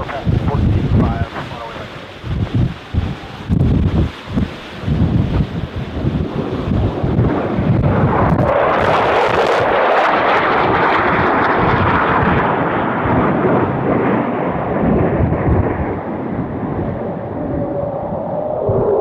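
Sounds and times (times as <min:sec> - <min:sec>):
fighter jet engine roar: 0:00.0 - 0:19.0.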